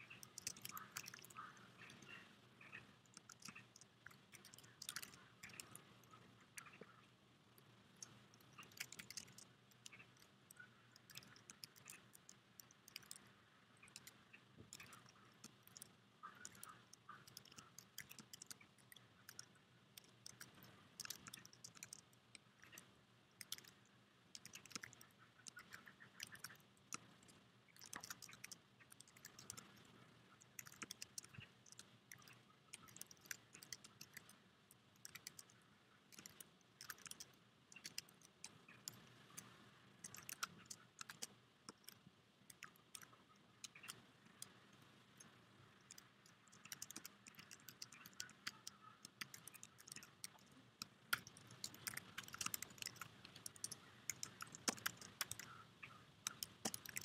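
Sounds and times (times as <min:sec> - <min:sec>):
faint typing on a keyboard: 0:00.0 - 0:57.0.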